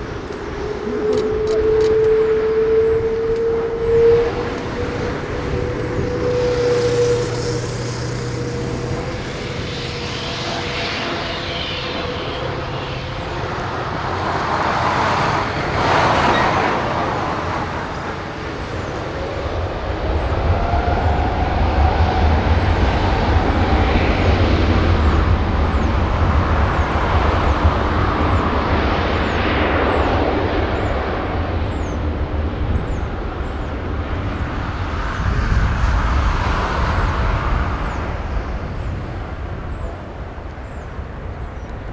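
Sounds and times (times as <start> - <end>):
jet engines running up: 0.0 - 41.9.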